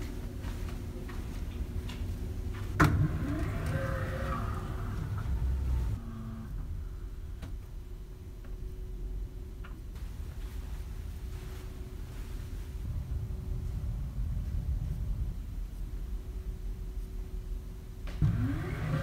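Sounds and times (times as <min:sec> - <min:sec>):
ferry engine rumble: 0:00.0 - 0:16.3.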